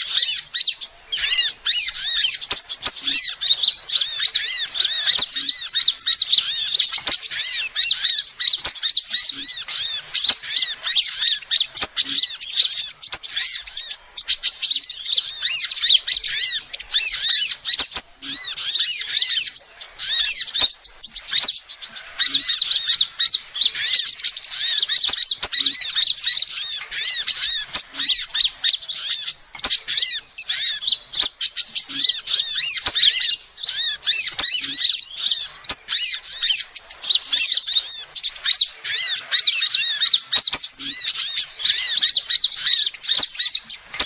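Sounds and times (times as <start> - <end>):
sunbird chattering chirps: 0.0 - 44.0.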